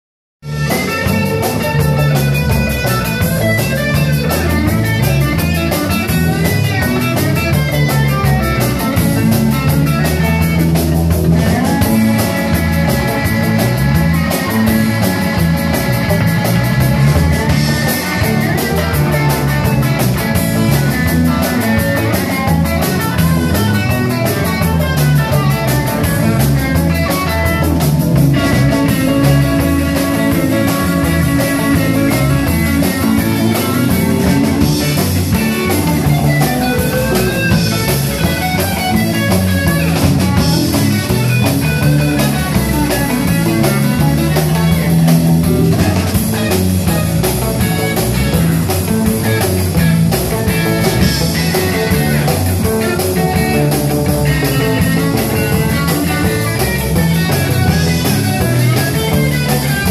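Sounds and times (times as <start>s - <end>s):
bass guitar: 0.4s - 59.9s
drum kit rock beat: 0.4s - 59.9s
electric guitars: 0.4s - 59.9s.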